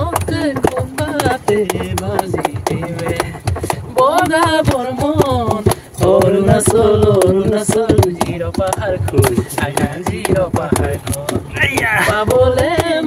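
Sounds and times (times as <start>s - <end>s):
clicking beat: 0.0s - 13.0s.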